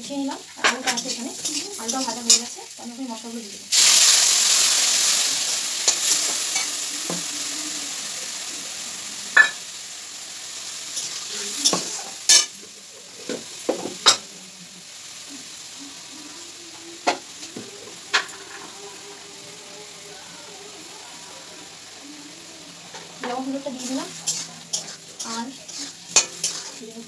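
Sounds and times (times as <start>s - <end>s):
spice paste sizzling in hot oil: 0.0s - 27.0s.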